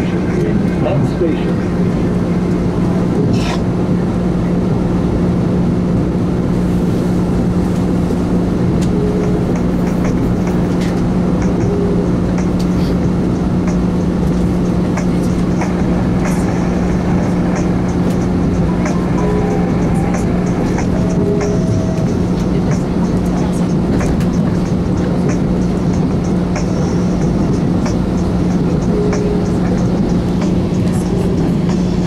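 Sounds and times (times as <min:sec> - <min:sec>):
constant low hum: 0:00.0 - 0:32.0
train rumbling: 0:00.0 - 0:32.0.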